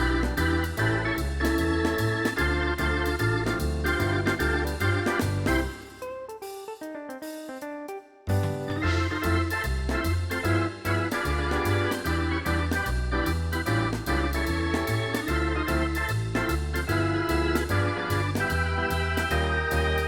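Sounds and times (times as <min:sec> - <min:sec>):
upbeat keyboard music with bass: 0:00.0 - 0:20.0.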